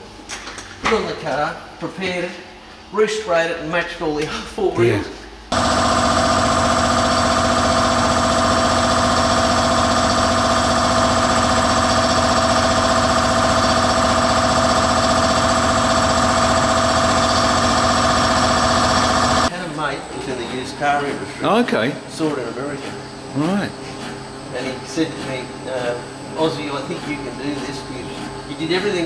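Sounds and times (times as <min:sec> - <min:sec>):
air compressor running: 0:05.0 - 0:29.0.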